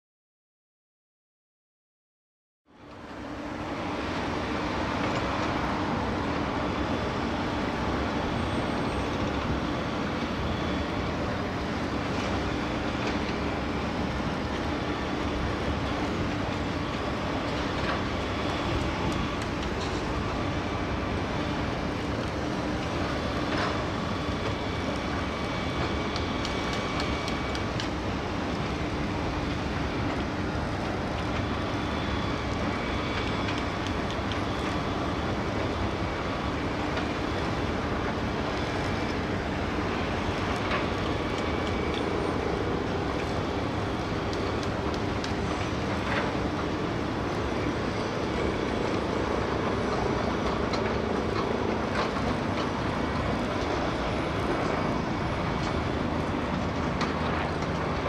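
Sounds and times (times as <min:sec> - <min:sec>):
traffic: 0:02.7 - 0:58.0
heavy machinery rumble: 0:02.8 - 0:58.0.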